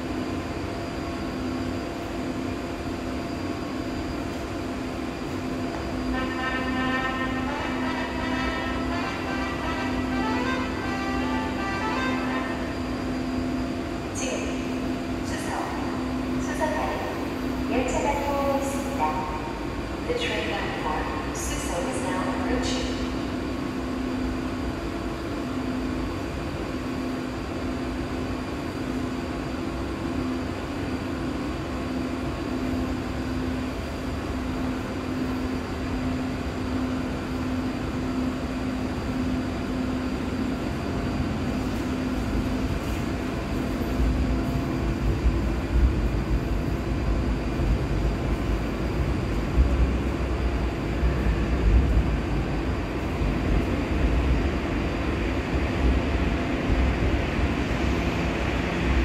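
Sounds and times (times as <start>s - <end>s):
subway platform hum: 0.0s - 59.0s
train rumbling in tunnel: 0.0s - 59.0s.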